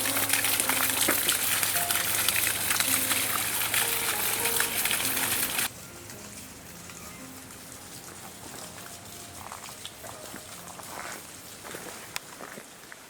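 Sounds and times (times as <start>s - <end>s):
running water splashing: 0.0s - 5.7s, 6.3s - 11.8s.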